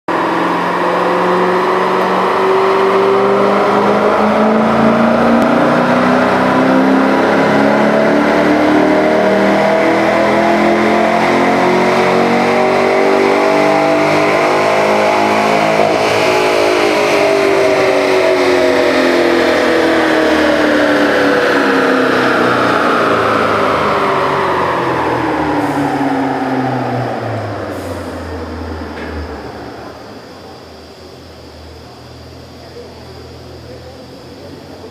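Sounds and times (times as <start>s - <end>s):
car engine revving on dynamometer: 0.1s - 34.8s.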